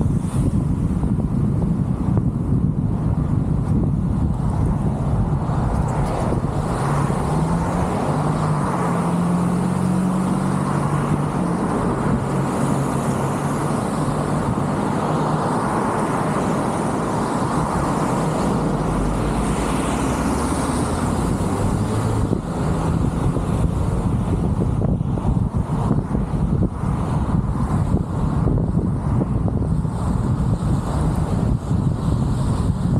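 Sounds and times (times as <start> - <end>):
city traffic rush: 0.0 - 32.9
low engine hum: 0.0 - 32.9.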